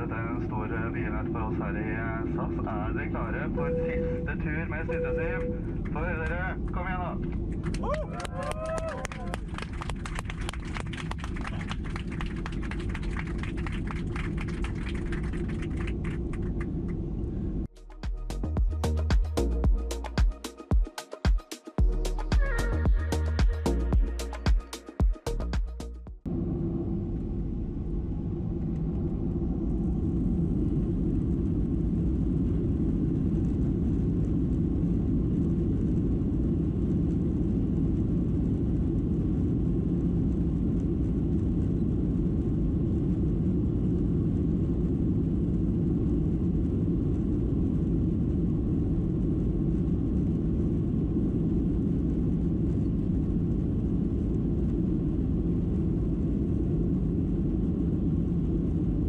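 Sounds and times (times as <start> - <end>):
jet engines low rumble: 0.0 - 25.5, 26.1 - 59.0.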